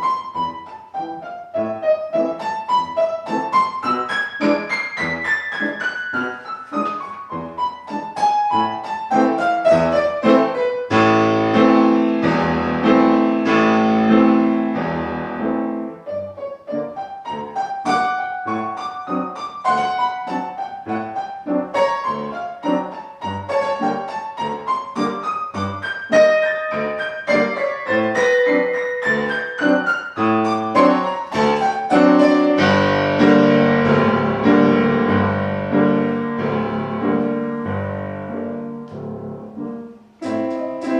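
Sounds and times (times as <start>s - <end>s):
classical piano music: 0.0s - 40.9s.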